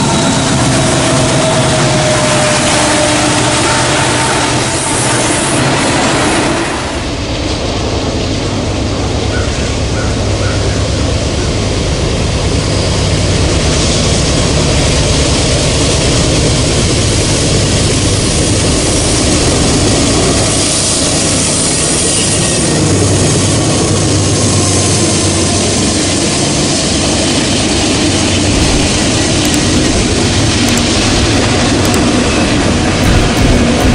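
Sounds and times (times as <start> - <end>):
diesel locomotive engine hum: 0.0 - 33.9
train wheels clattering on rails: 0.0 - 33.9.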